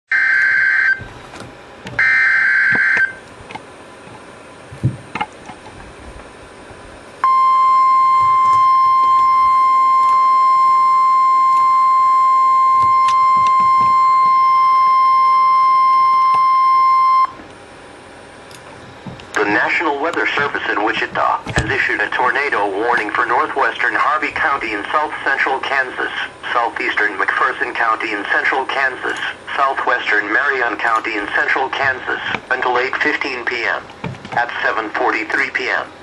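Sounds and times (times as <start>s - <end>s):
steady high warning tone: 0.1s - 3.3s, 6.2s - 36.0s.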